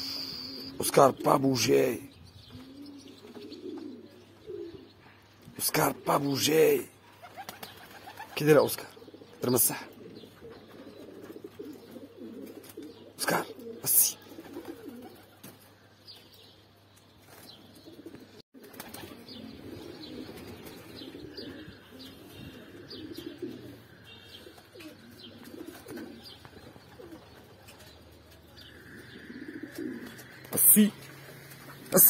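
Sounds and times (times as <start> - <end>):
pigeons cooing: 0.0 - 16.6, 17.5 - 32.0.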